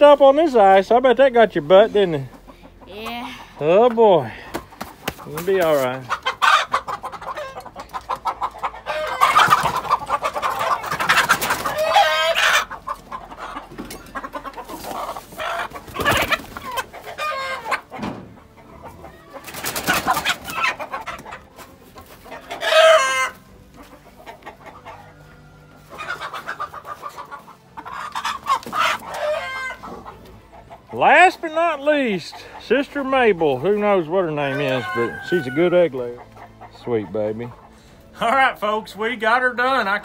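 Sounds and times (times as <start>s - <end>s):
chickens clucking and squawking: 0.0s - 40.0s.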